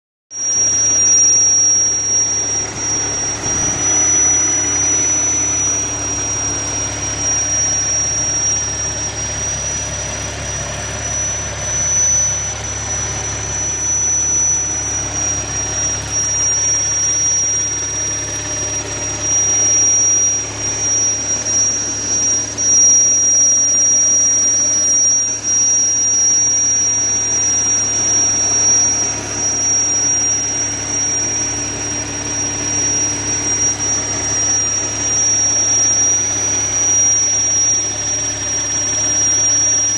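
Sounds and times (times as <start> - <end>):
high-pitched whistle: 0.3 - 39.9
engine hum: 1.4 - 22.6, 26.7 - 39.9.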